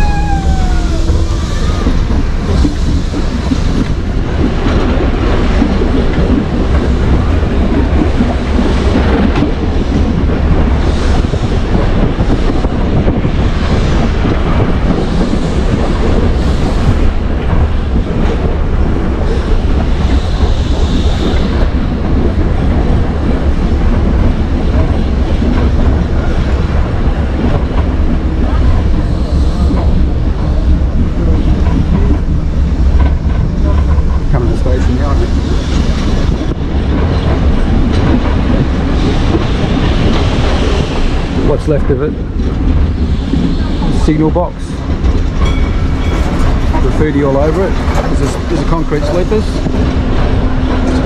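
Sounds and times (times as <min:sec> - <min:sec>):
electric tram rumbling: 0:00.0 - 0:51.0.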